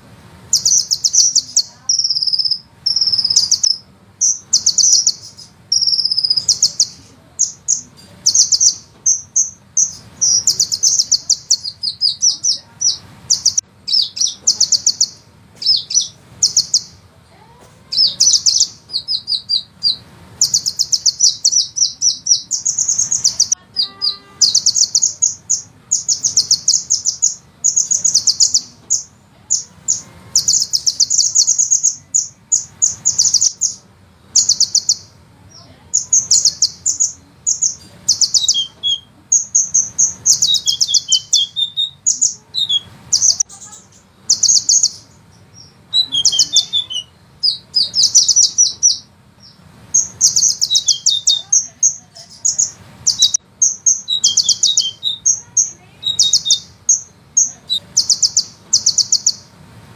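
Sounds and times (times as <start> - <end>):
bird singing rapid trills: 0.4 - 59.6.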